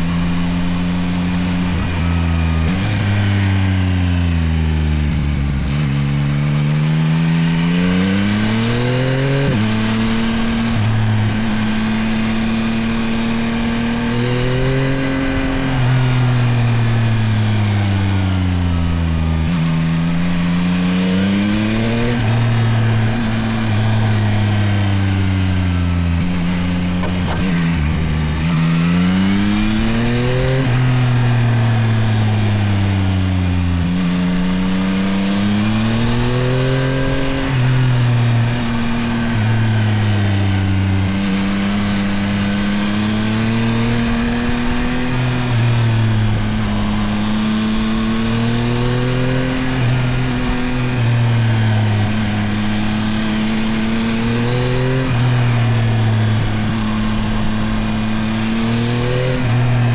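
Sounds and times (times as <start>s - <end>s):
motorcycle engine accelerating and shifting: 0.0s - 59.9s.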